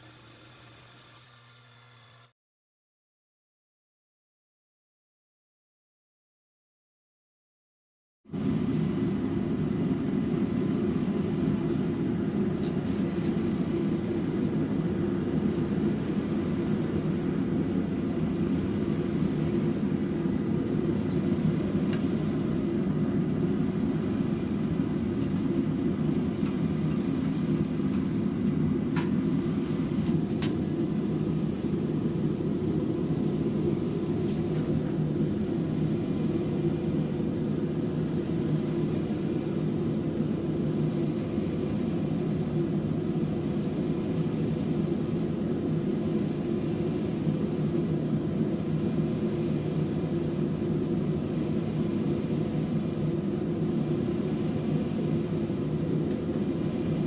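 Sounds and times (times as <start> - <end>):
workshop equipment roaring: 0.0 - 2.3, 8.3 - 57.0.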